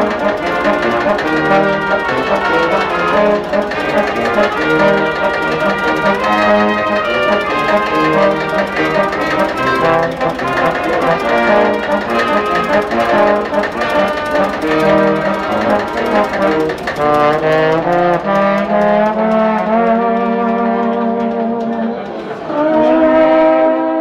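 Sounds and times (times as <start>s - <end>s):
brass ensemble playing: 0.0s - 24.0s.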